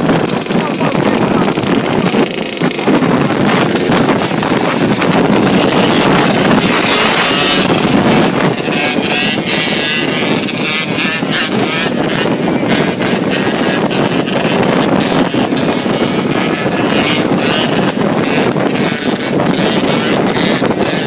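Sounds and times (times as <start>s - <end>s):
dirt bike engines running: 0.0s - 21.0s
wind buffeting microphone: 0.0s - 21.0s.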